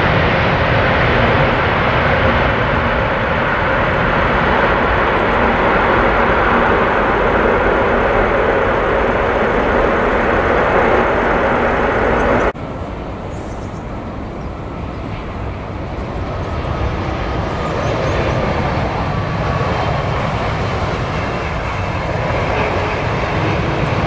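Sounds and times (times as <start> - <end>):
jet engines running loud: 0.0 - 24.0
jet taxiing on runway: 0.0 - 24.0.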